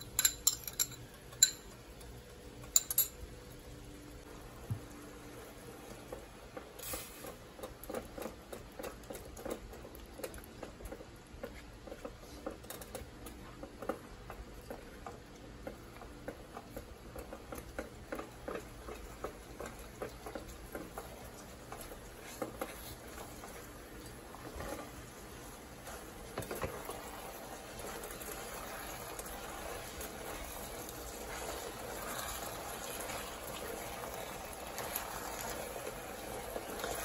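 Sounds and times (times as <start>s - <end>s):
sauce bubbling in pot: 4.2s - 37.0s
spatula stirring: 6.9s - 37.0s.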